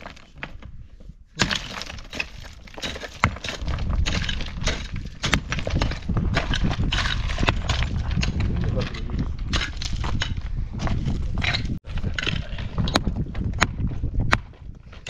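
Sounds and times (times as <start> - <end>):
rough scraping: 1.4 - 15.0.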